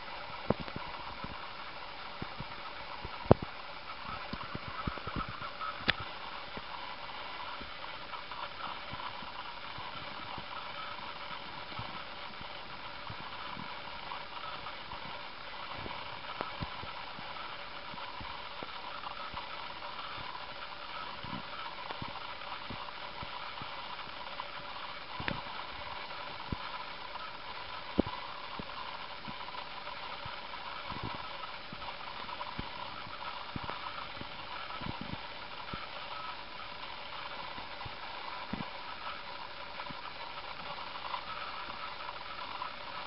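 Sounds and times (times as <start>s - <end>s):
steady hiss: 0.0s - 43.0s.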